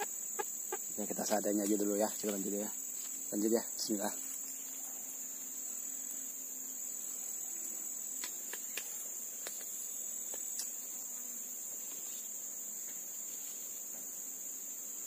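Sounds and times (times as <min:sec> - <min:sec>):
chorus of insects: 0:00.0 - 0:15.0.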